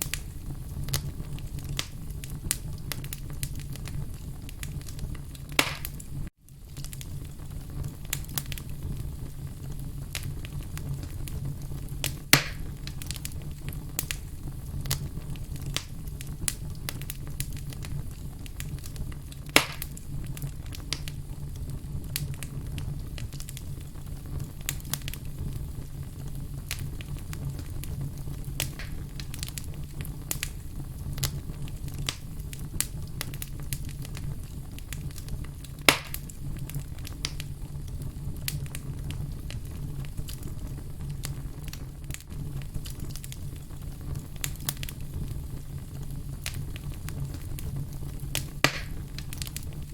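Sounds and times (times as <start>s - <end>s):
logs crackling in fireplace: 0.0s - 49.9s
loud fire pops: 0.0s - 49.9s.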